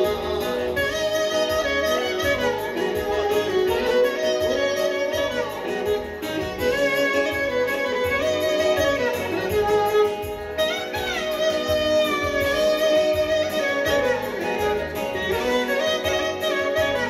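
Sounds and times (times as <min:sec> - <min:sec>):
ornamented folk melody: 0:00.0 - 0:17.0
steady drum beat: 0:00.0 - 0:17.0.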